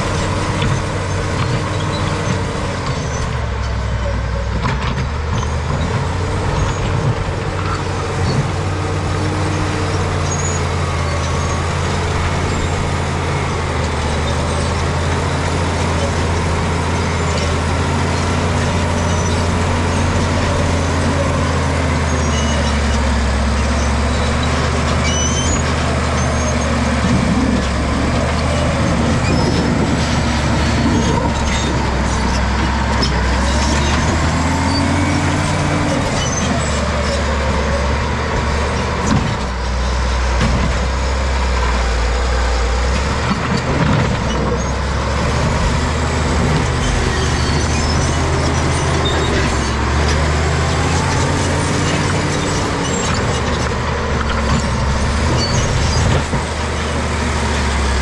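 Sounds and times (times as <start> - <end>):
bulldozer diesel engine working hard: 0.0 - 58.0.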